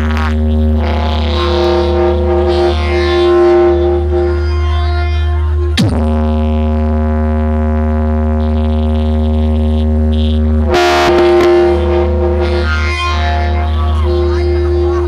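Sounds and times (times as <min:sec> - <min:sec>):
electronic dance music: 0:00.0 - 0:07.0, 0:07.7 - 0:15.0.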